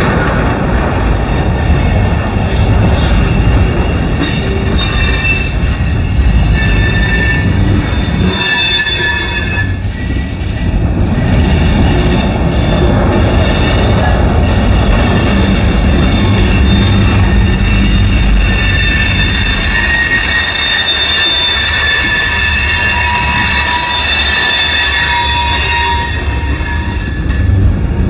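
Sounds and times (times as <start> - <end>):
freight train rumbling past: 0.0 - 28.0
train wheels squealing: 1.7 - 27.6.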